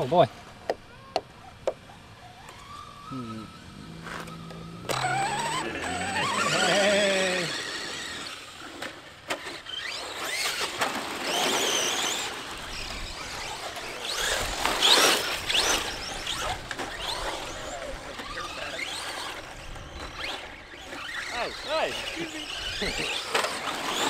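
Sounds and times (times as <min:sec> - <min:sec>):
electric motors whining: 0:00.0 - 0:24.0
tyres rushing on loose dirt: 0:04.1 - 0:24.0.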